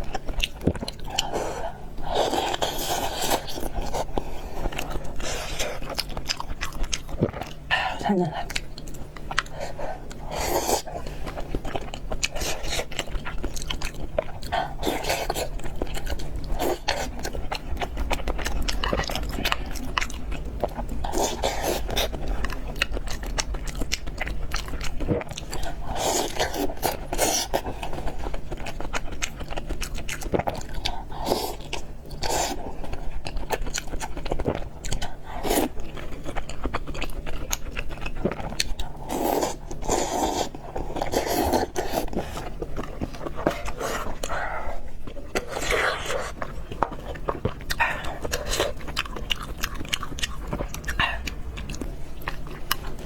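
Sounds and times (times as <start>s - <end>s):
chewing and biting food: 0.0s - 53.0s.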